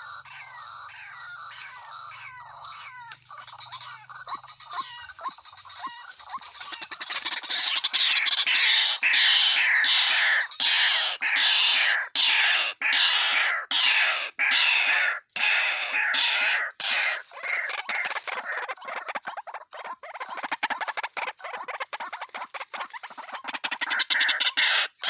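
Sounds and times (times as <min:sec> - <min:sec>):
bird harsh rasping calls: 0:00.0 - 0:25.0.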